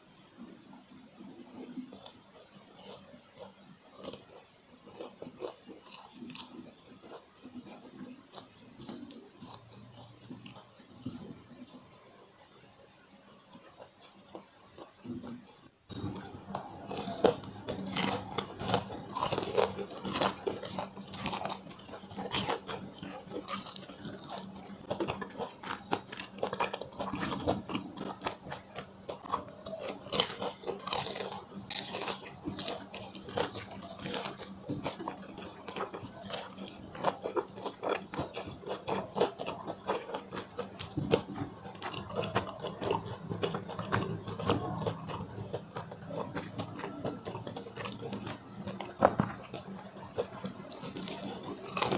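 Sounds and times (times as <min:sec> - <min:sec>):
person chewing food: 0:00.4 - 0:51.9
crunching: 0:01.6 - 0:11.7, 0:13.5 - 0:51.9.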